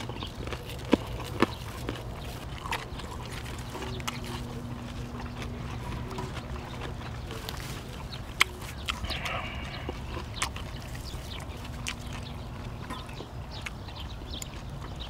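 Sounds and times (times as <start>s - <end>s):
low steady hum: 0.0s - 15.0s
person chewing: 0.0s - 15.0s.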